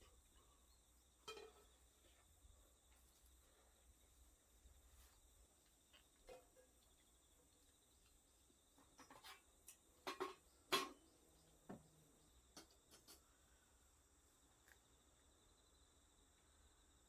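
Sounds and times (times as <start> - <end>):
insect trill: 0.0 - 17.0.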